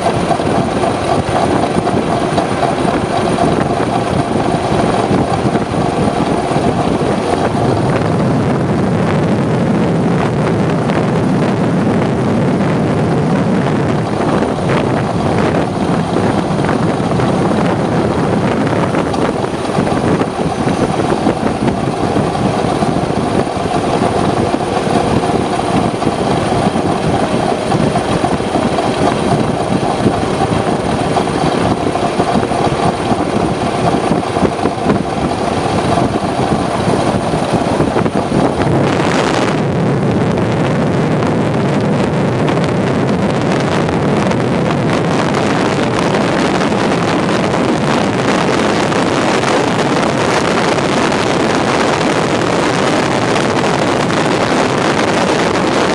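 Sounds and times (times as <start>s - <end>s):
dense rush of noise: 0.0s - 55.9s
two-stroke motorcycle engine running: 0.0s - 55.9s.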